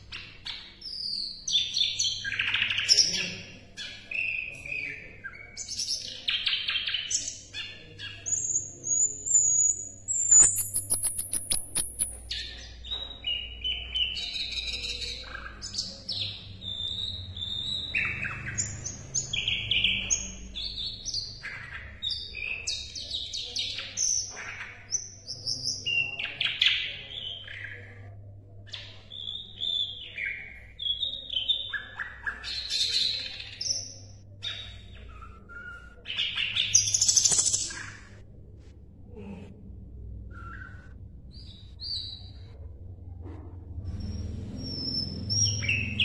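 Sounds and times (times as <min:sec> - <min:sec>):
bird chirping and trilling: 0:00.0 - 0:28.0, 0:28.7 - 0:38.2, 0:43.9 - 0:46.0.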